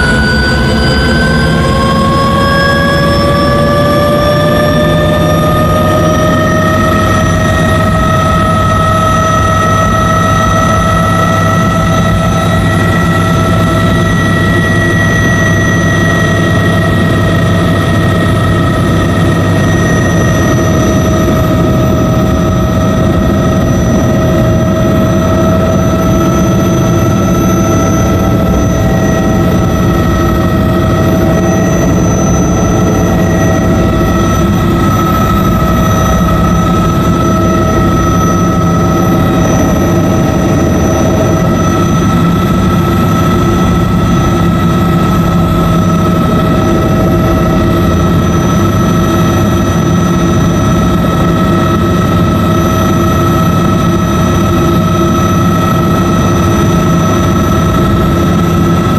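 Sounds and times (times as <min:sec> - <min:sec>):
helicopter in flight: 0:00.0 - 0:58.9.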